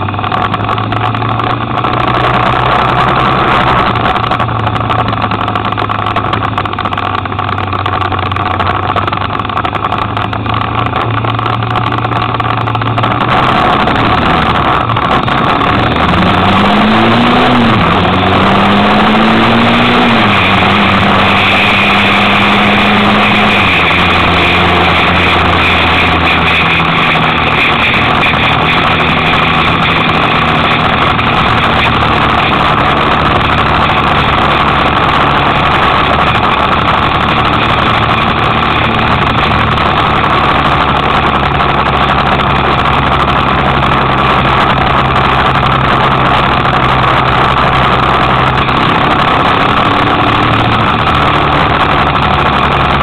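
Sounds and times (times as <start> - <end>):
motorcycle engine revving: 0.0 - 53.0
wind and road noise: 0.0 - 53.0.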